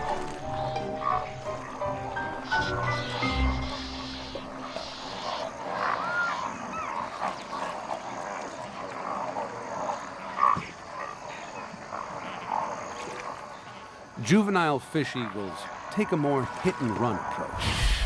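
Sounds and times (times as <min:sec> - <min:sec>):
overlapping animal calls: 0:00.0 - 0:18.0.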